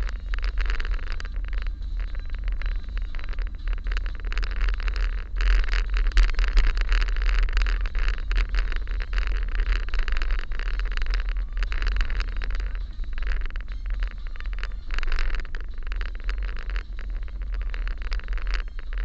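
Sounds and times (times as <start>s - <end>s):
car driving slowly: 0.0s - 18.9s.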